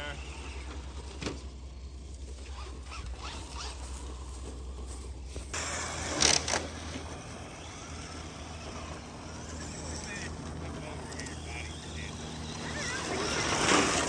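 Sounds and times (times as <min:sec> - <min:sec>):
rc car motor whines: 0:00.0 - 0:14.0.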